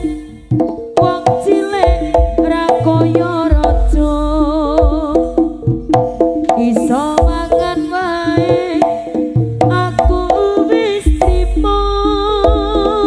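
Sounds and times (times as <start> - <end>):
hand drum strokes: 0.0 - 13.0
sustained melodic line: 0.0 - 13.0.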